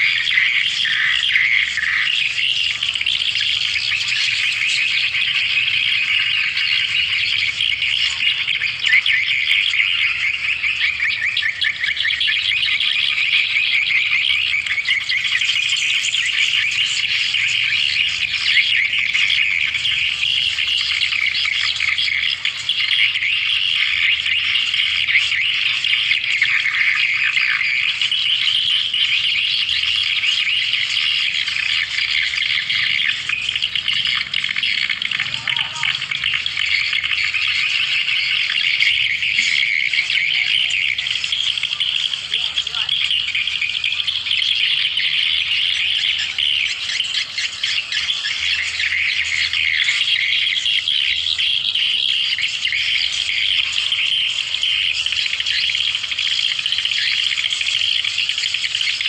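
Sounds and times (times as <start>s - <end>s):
swiftlet chirps and twitters: 0.0s - 59.0s.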